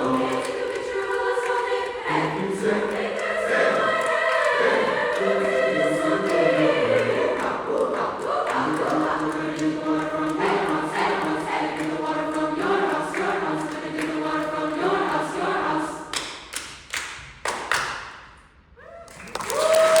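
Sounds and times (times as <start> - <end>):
choir singing a cappella: 0.0 - 16.3.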